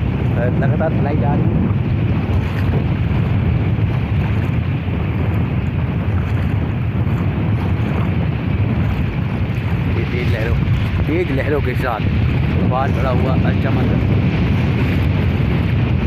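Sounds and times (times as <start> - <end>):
small waves washing ashore: 0.0 - 16.0
wind buffeting microphone: 0.0 - 16.0.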